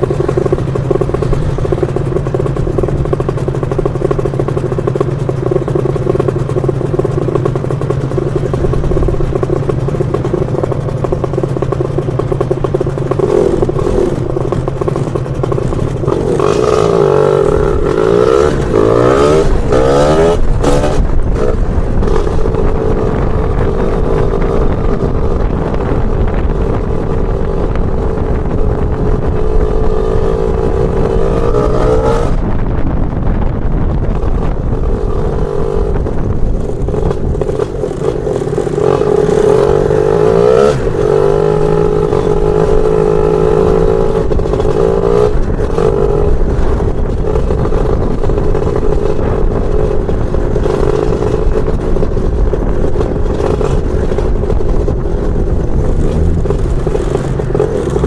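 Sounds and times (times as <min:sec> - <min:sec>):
scooter two-stroke engine accelerating: 0:00.0 - 0:58.0.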